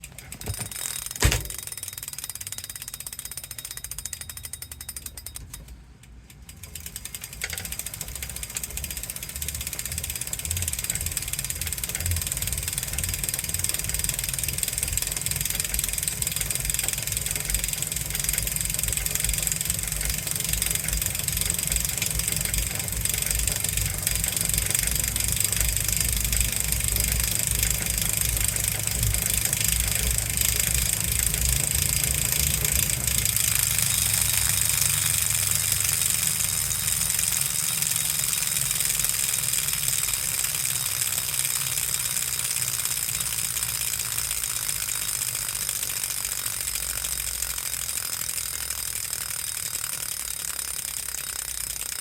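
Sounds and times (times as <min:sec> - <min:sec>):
flywheel whirring: 0:00.0 - 0:52.0
rapid ratchet-like clicking: 0:00.0 - 0:52.0.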